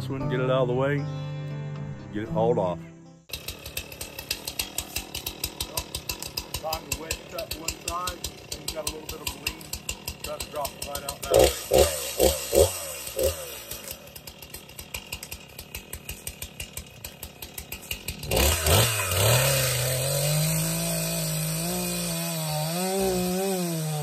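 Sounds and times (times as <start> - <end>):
chainsaw cutting wood: 3.3 - 24.0
chainsaw idling and revving: 3.3 - 24.0.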